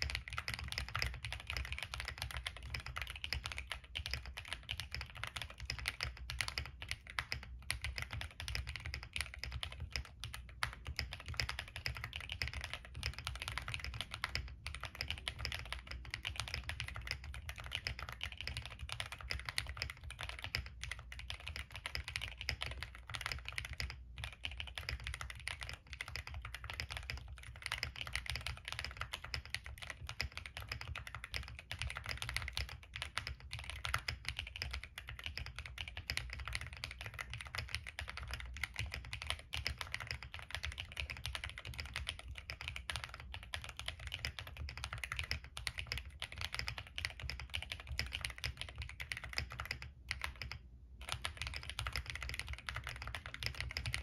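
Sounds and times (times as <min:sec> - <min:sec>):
fast typing on mechanical keyboard: 0:00.0 - 0:54.0.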